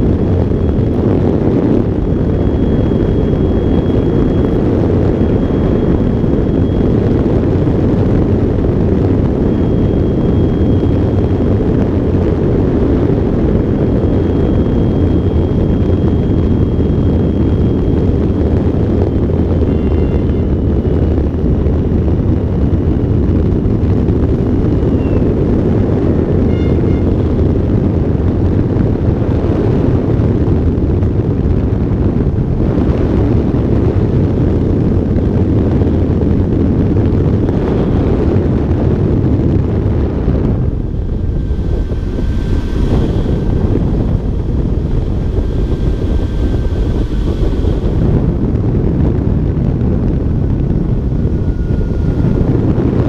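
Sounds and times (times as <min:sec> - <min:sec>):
electric motor and propeller whine: 0:00.0 - 0:53.0
wind buffeting microphone: 0:00.0 - 0:53.0.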